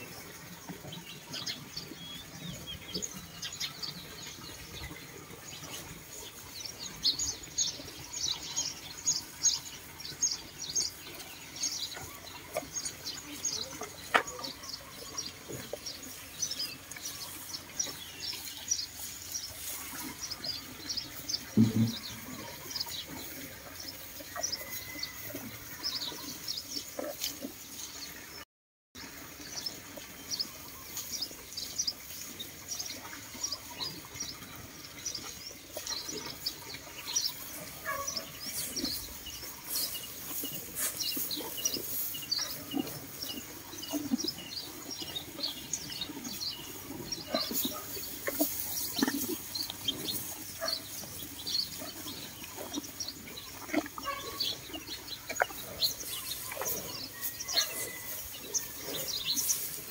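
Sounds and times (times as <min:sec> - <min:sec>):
small birds chirping: 0:00.0 - 0:28.4, 0:29.4 - 0:59.9.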